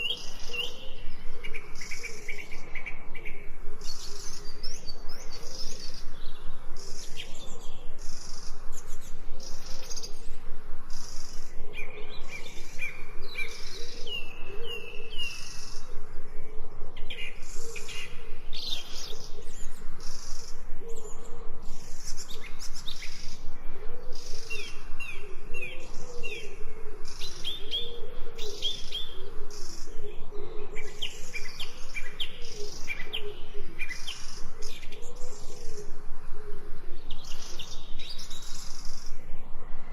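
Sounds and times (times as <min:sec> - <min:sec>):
low warbling bird call: 0:00.0 - 0:39.9.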